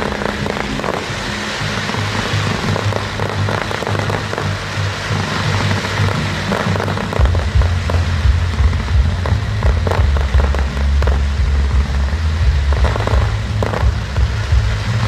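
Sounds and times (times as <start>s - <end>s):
fireworks crackling and popping: 0.0s - 15.0s
music with deep bass: 0.0s - 15.0s.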